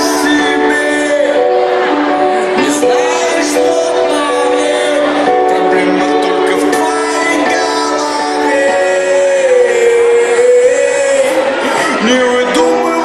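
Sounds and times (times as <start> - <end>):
pop dance music with singing: 0.0 - 13.0.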